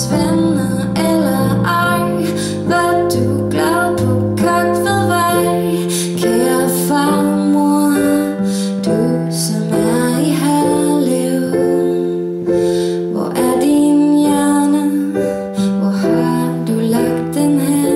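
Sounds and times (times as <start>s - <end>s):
digital piano chords: 0.0s - 17.9s
woman singing: 0.0s - 17.9s.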